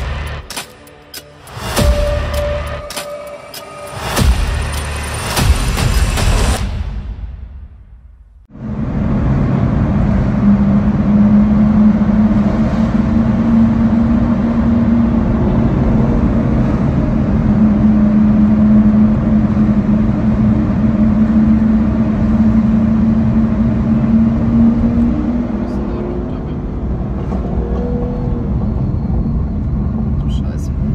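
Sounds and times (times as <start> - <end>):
sports car exhaust drone in tunnel: 0.0 - 30.9.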